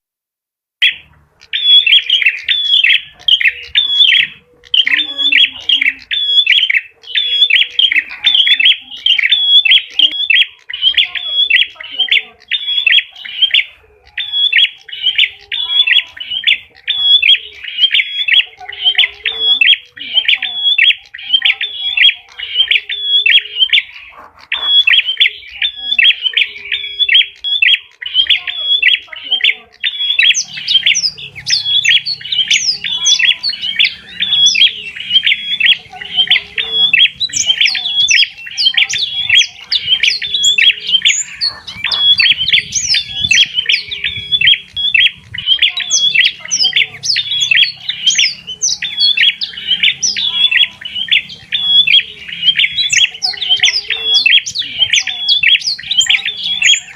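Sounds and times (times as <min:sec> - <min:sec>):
bird squawking repeatedly: 0:00.8 - 0:56.9
high sharp bird chirps: 0:00.8 - 0:56.9.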